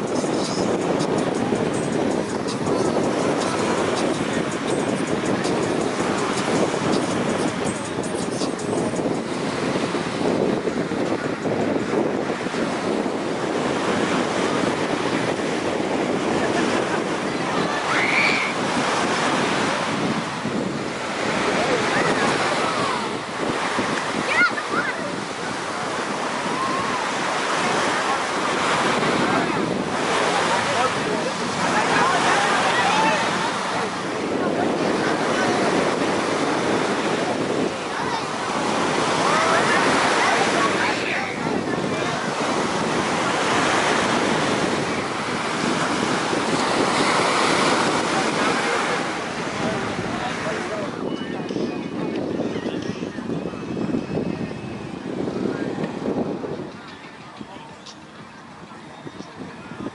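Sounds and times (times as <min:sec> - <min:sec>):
faint voices: 0:00.0 - 0:59.9
ocean surf washing onto beach: 0:00.0 - 0:59.9
wind rumbling on microphone: 0:00.0 - 0:59.9.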